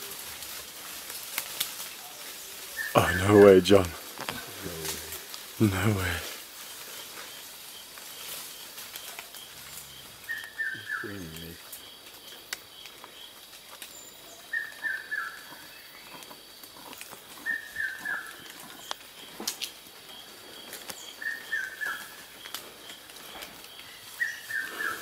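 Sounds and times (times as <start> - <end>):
high pulsing insect trill: 1.6 - 25.0.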